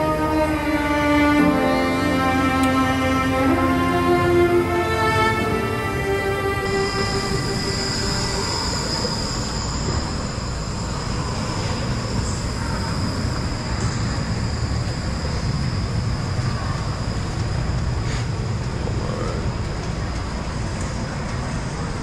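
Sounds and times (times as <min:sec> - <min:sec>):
faint high whine: 0:00.0 - 0:22.0
ferris wheel mechanical rumble: 0:00.0 - 0:22.0.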